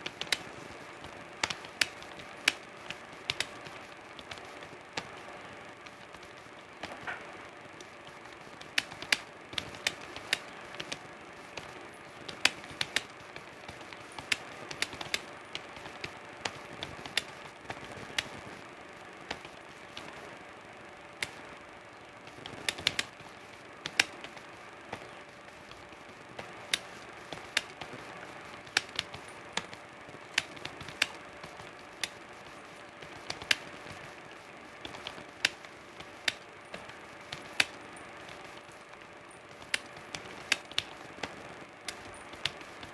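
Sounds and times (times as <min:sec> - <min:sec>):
computer keyboard typing: 0:00.0 - 0:20.4, 0:21.2 - 0:21.5, 0:22.2 - 0:42.9
faint steady hum: 0:00.0 - 0:42.9.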